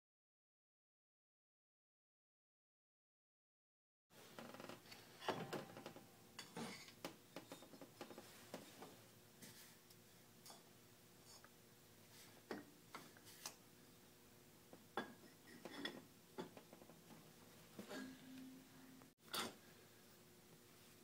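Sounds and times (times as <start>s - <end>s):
faint steady hum: 4.2s - 21.0s.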